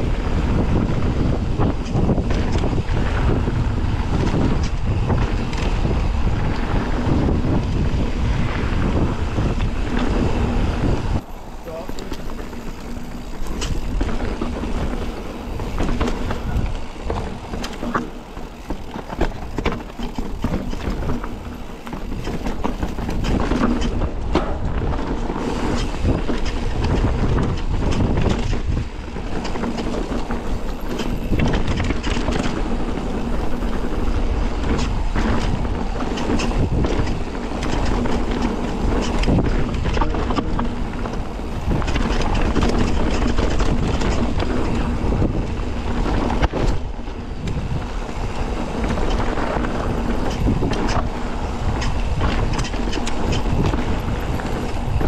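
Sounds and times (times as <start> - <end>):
bike rattling over bumps: 0.0 - 55.0
wind buffeting microphone: 0.0 - 55.0.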